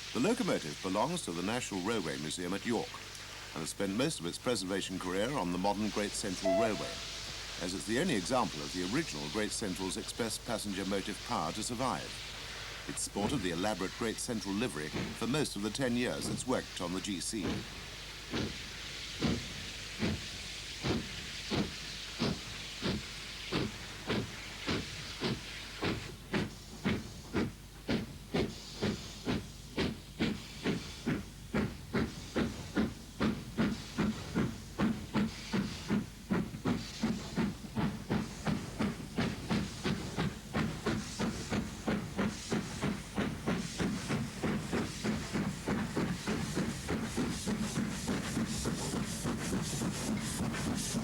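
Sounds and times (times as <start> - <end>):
steady hiss of steam: 0.0 - 51.0
steam locomotive chuffing: 0.0 - 51.0.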